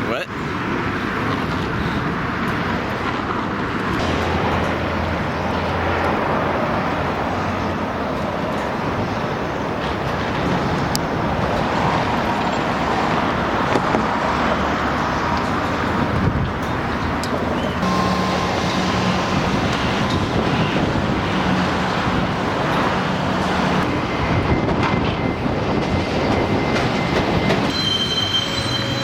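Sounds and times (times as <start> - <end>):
cars passing by: 0.0 - 29.0.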